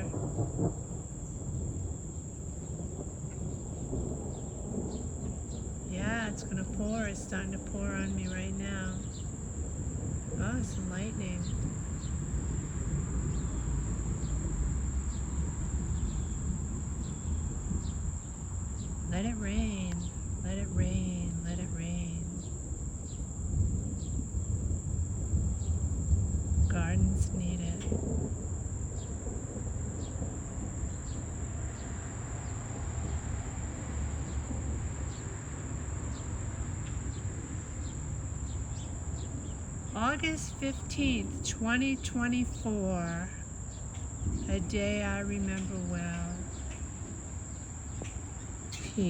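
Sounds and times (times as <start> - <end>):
pouring rain hissing: 0.0 - 41.8
crickets trilling: 0.0 - 49.0.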